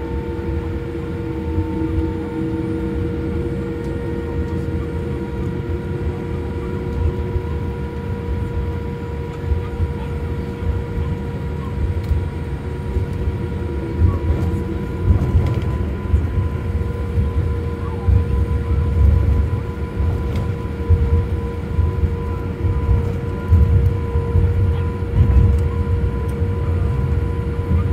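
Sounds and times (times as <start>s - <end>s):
jet engines running: 0.0s - 27.9s.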